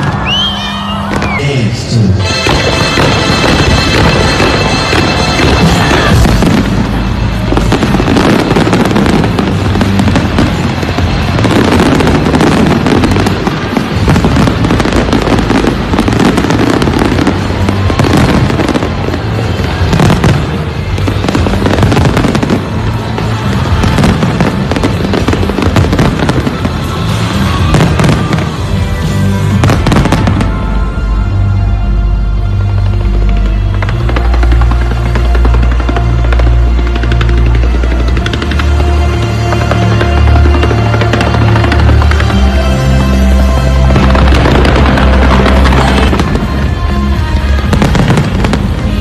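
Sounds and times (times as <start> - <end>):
fireworks bangs and crackle: 0.0 - 49.0
loud music: 0.0 - 49.0.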